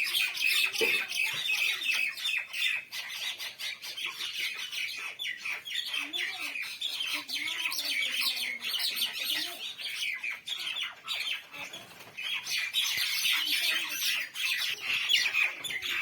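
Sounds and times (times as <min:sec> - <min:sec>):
mynah birds chattering and squawking: 0:00.0 - 0:16.0.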